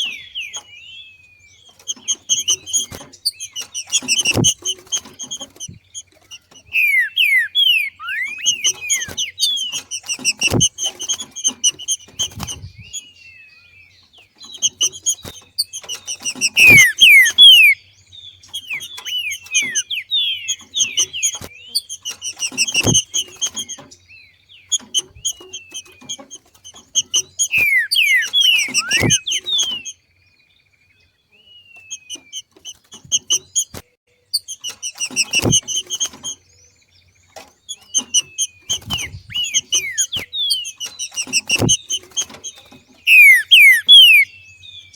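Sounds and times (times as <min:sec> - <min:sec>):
bird chipping and whistling calls: 0:00.0 - 0:30.1, 0:30.9 - 0:44.9.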